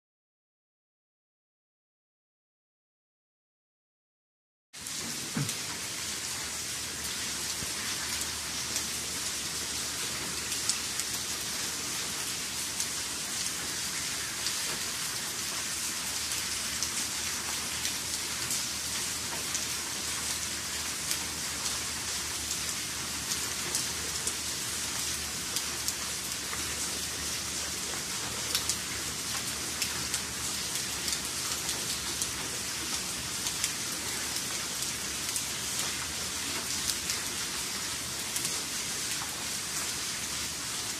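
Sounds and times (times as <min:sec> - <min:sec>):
raindrops hitting wet paving: 0:04.8 - 0:40.9
steady rain hiss: 0:04.8 - 0:40.9.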